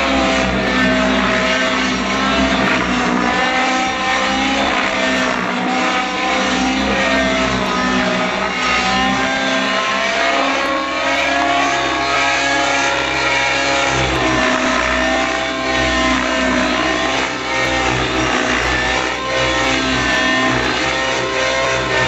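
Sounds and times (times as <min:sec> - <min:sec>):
rc helicopter engine whine: 0:00.0 - 0:22.0.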